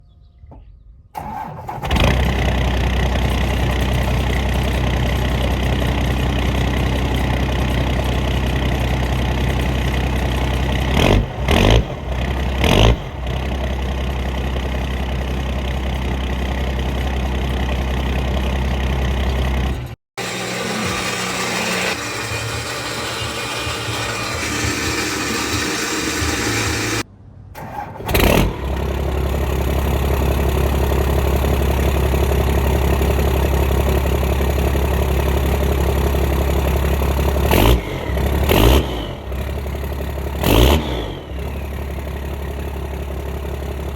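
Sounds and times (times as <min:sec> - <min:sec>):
diesel engine cranking: 0:01.1 - 0:43.9
engine revving: 0:01.2 - 0:43.2
diesel engine idling: 0:01.2 - 0:43.9.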